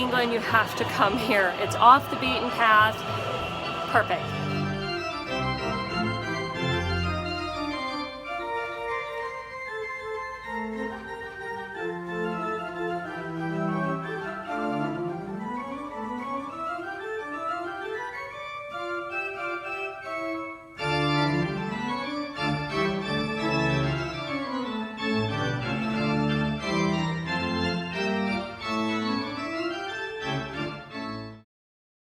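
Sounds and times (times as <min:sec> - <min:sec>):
church pipe organ playing chords: 0:00.0 - 0:31.4.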